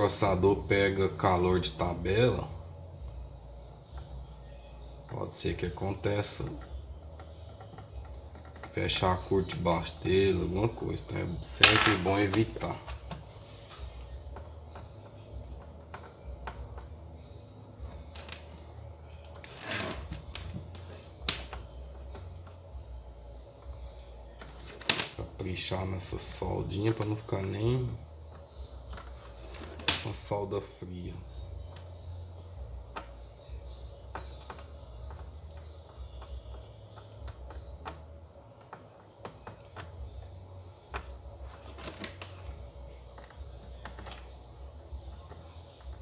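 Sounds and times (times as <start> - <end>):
low steady hum: 0.0 - 46.0
soldering clicks and crackles: 5.0 - 30.6, 31.2 - 46.0.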